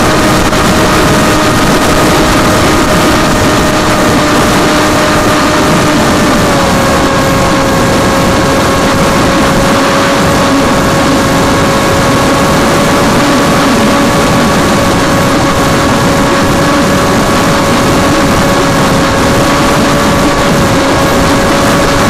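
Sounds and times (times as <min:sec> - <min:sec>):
propeller whine: 0:00.0 - 0:22.0
wind rush: 0:00.0 - 0:22.0.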